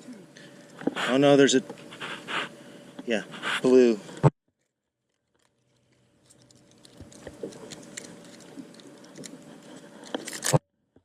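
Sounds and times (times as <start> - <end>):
faint steady hum: 0.0 - 4.3, 5.2 - 10.6.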